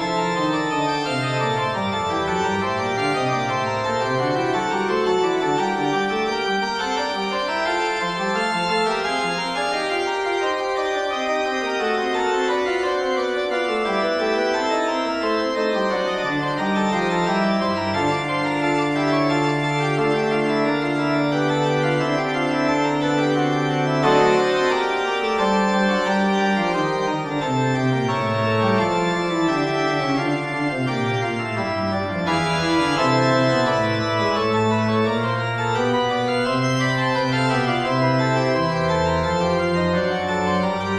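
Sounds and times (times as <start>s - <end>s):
organ music: 0.0s - 40.9s.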